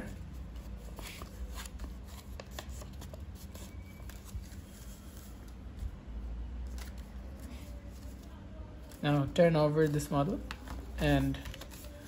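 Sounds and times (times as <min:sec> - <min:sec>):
paper crinkling and rustling: 0:00.0 - 0:05.9, 0:06.6 - 0:12.0.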